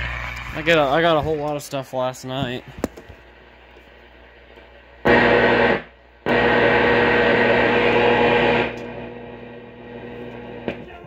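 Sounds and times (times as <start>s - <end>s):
radio static: 0.0s - 11.0s
steady hum: 0.0s - 11.0s.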